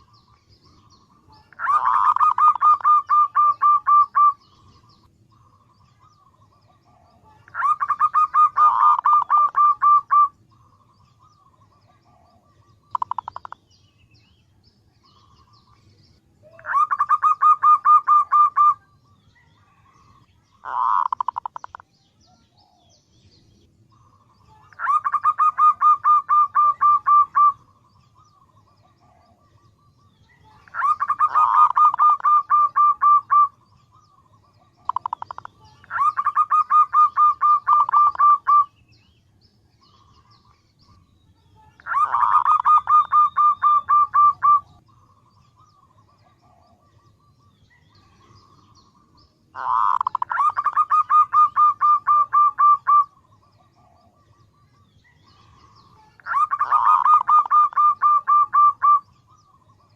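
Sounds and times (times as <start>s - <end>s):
dove calling: 0.0s - 14.3s, 15.0s - 39.1s, 39.8s - 59.9s.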